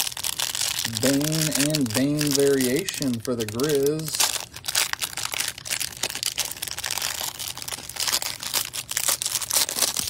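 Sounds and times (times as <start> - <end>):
plastic wrap crinkling and tearing: 0.0 - 10.0.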